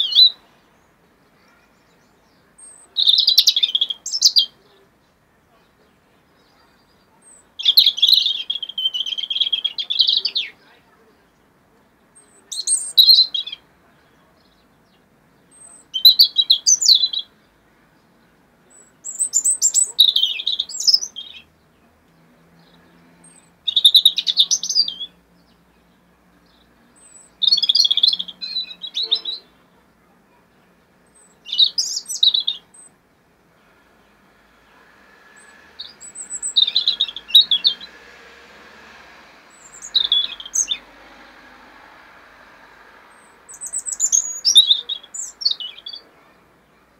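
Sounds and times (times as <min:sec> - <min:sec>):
faint background noise: 0:00.0 - 0:46.9
robin singing: 0:00.0 - 0:46.9.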